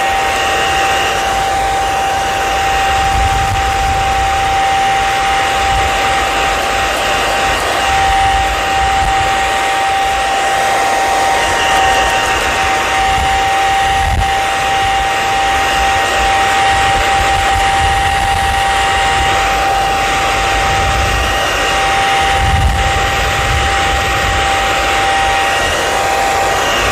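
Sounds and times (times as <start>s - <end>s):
hair dryer running: 0.0s - 26.9s.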